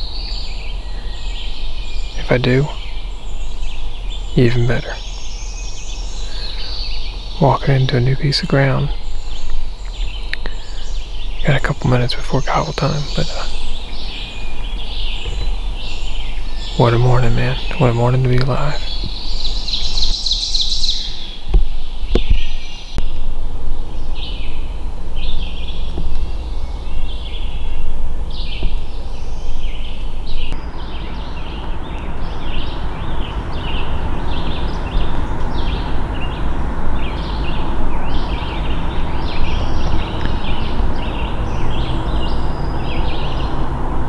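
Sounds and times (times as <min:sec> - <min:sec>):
low rumble: 0:00.0 - 0:44.0
songbirds chirping: 0:00.0 - 0:44.0.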